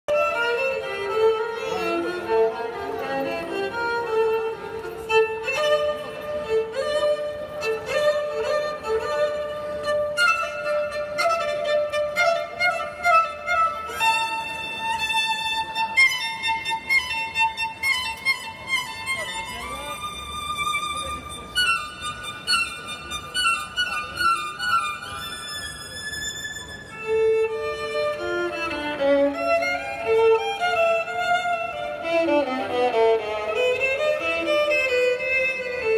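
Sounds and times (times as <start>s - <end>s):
violin playing flowing melody: 0.1s - 35.9s.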